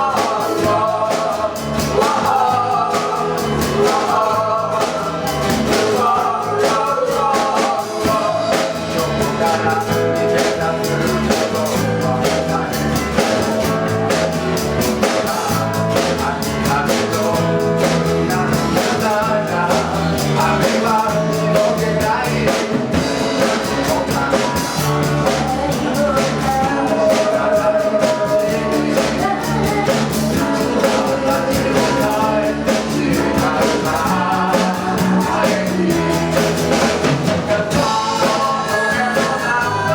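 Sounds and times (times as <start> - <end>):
band playing pop song live: 0.0 - 39.9
drum kit: 0.0 - 39.9
guitar: 0.0 - 39.9
person singing: 0.0 - 39.9.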